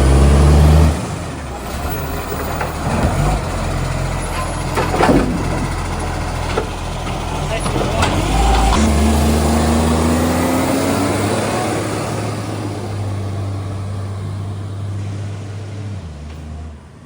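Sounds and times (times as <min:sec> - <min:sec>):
garbage truck engine pulling away: 0:00.0 - 0:17.0.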